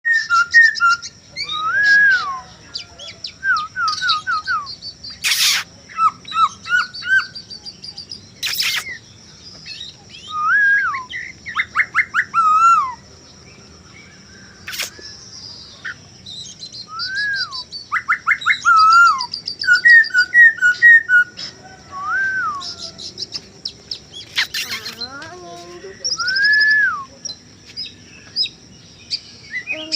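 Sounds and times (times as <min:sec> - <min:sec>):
bird singing whistled phrases: 0:00.1 - 0:13.0, 0:14.4 - 0:23.4, 0:24.1 - 0:25.3, 0:26.0 - 0:28.5, 0:29.1 - 0:29.9.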